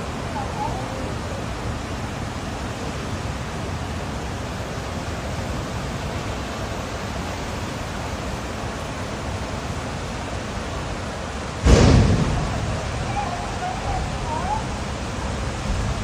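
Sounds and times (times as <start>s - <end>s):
heavy water rushing: 0.0s - 16.0s.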